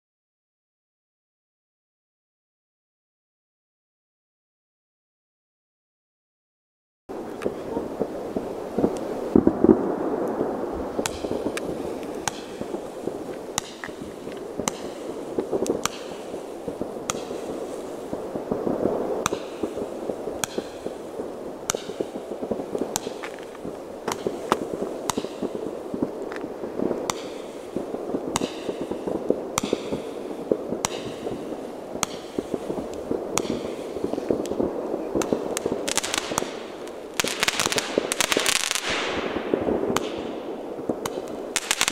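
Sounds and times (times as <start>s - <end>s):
dense firework crackling: 7.1s - 41.9s
firework cracks and pops: 7.1s - 41.9s
firework rushing noise: 7.1s - 41.9s.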